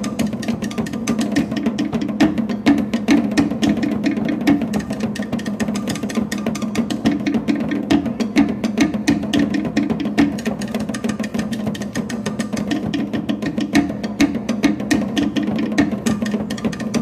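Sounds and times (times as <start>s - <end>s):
deep drum beats: 0.0s - 17.0s.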